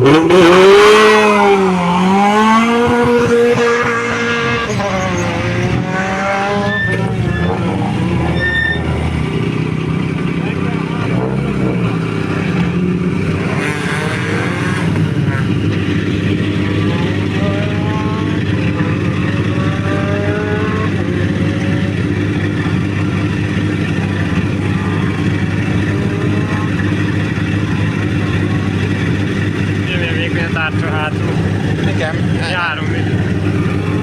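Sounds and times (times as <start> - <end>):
engine note rising in pitch: 0.0 - 34.0
rally car engine running: 0.0 - 34.0.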